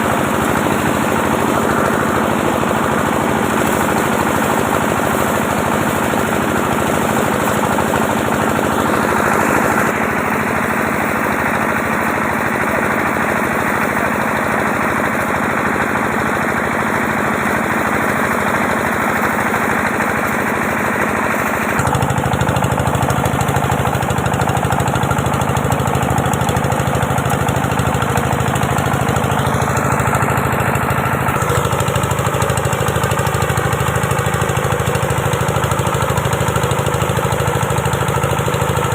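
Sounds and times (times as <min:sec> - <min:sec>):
small engine chugging: 0:00.0 - 0:38.9.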